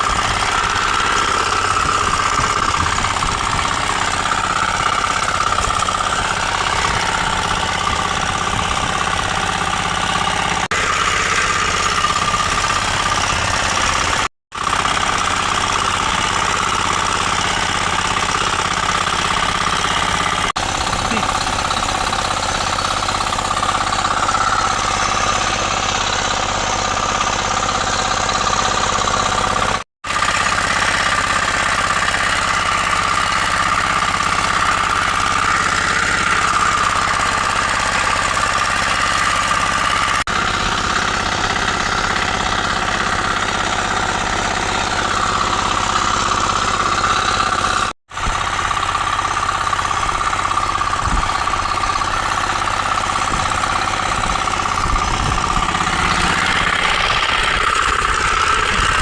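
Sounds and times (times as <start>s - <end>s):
weeder engine running steadily: 0.0s - 59.0s.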